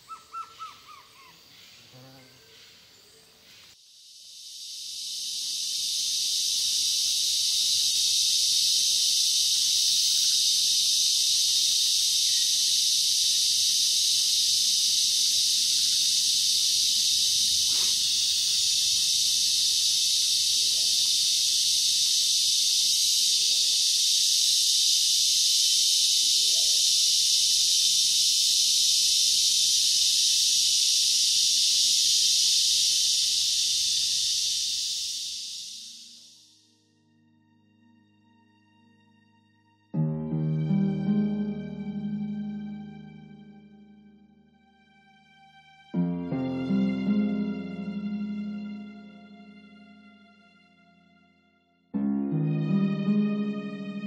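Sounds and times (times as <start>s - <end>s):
insect chorus: 0.0s - 37.3s, 40.0s - 51.0s.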